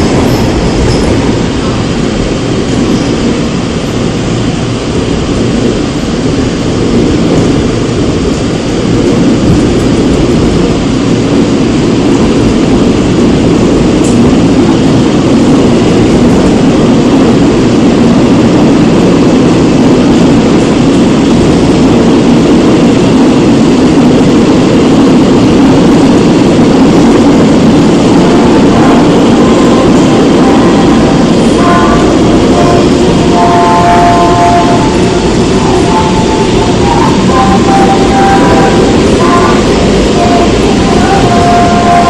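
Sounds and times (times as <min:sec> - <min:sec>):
train wheels and motors rumbling: 0:00.0 - 0:42.0.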